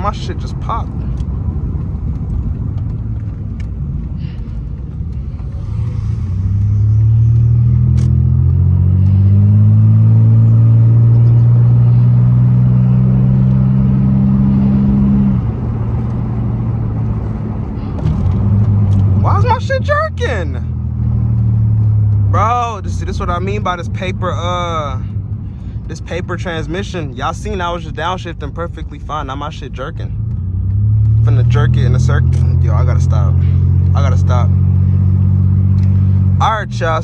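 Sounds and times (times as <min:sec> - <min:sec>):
car exhaust rumble: 0:00.0 - 0:37.0.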